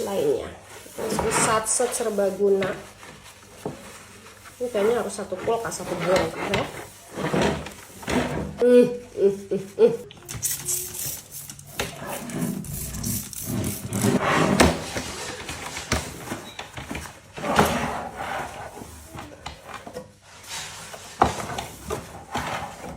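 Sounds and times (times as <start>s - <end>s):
plastic sliding and rubbing: 0.0s - 8.6s, 10.7s - 22.9s.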